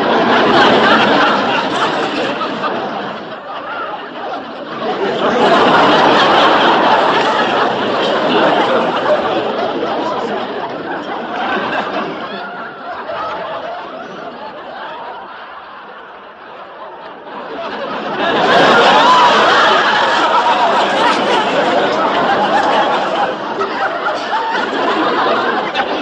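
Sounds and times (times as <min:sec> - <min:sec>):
large crowd laughing: 0:00.0 - 0:26.0.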